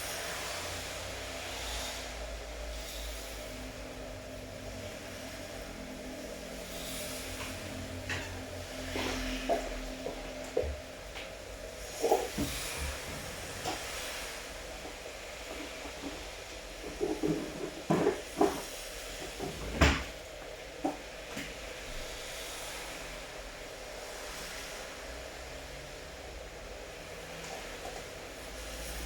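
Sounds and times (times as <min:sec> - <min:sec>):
steady rainfall hiss: 0:00.0 - 0:29.0.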